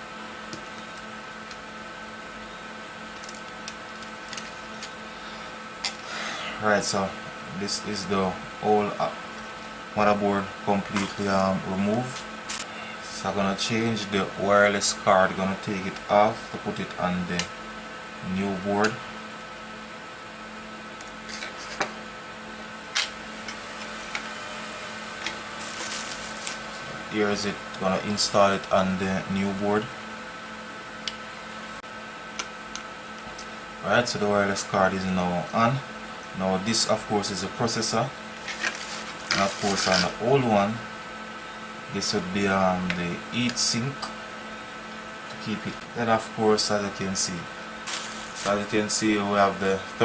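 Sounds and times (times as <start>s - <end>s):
background hum and hiss: 0.0s - 50.0s.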